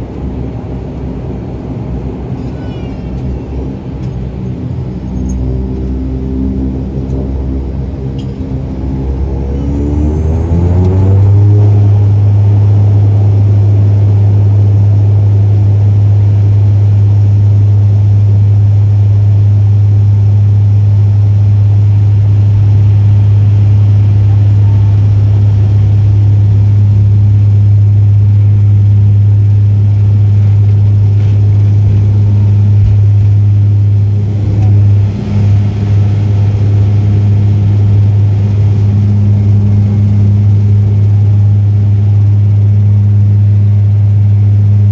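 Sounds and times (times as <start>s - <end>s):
turboprop engines droning: 0.0s - 44.9s.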